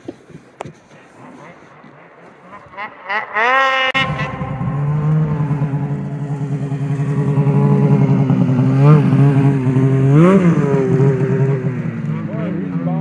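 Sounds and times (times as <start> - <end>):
snowmobile engine idling: 0.0 - 13.0
snowmobile engine revving: 0.0 - 13.0.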